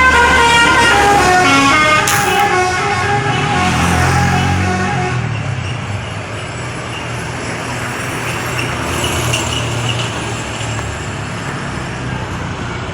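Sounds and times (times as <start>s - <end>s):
bus diesel engine humming: 0.0s - 12.9s
road and street noise: 0.0s - 12.9s.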